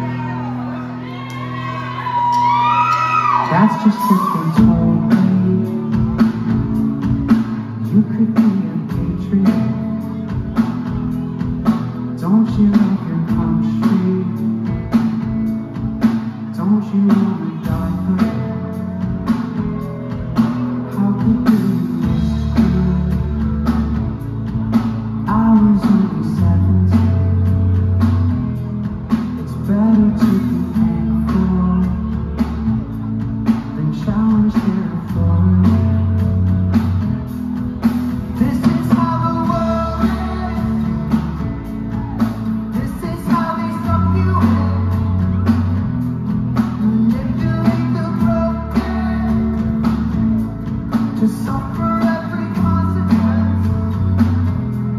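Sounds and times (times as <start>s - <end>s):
live rock band: 0.0s - 54.9s.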